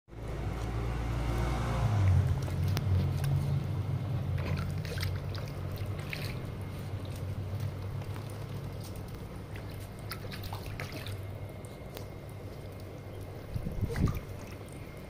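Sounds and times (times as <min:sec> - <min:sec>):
steady low rumble: 0:00.1 - 0:15.0
water jets splashing on paving: 0:00.1 - 0:15.0.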